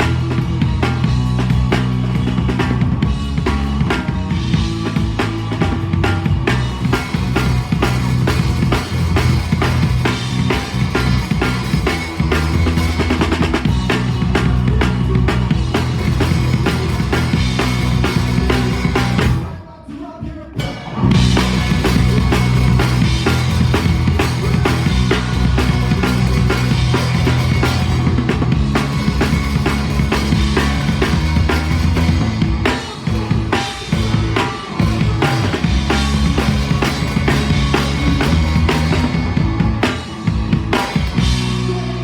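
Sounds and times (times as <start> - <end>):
rock band playing: 0.0 - 19.7, 20.6 - 42.0.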